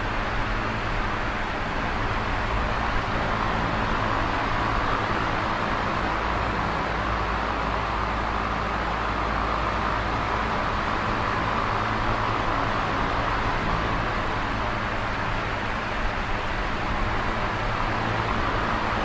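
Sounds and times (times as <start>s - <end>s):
electric fan whooshing: 0.0s - 19.0s.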